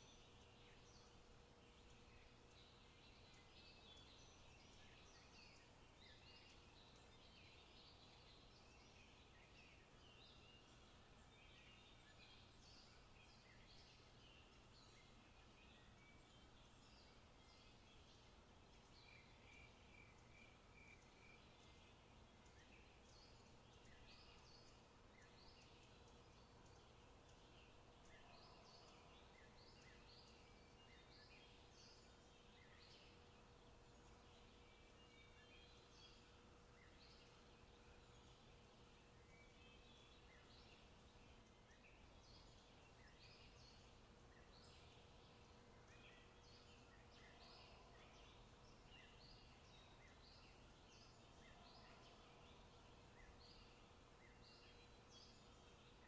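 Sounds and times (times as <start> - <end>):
faint low hum: 0.0 - 56.0
small birds chirping: 0.0 - 56.0
steady background hiss: 0.0 - 56.0.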